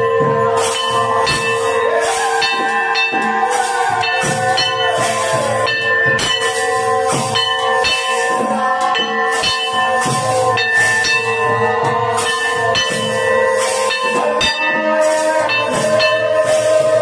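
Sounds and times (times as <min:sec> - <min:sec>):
bells ringing: 0:00.0 - 0:17.0
brass hand cymbals clashing: 0:00.0 - 0:17.0
clay drum beaten in steady rhythm: 0:00.0 - 0:17.0.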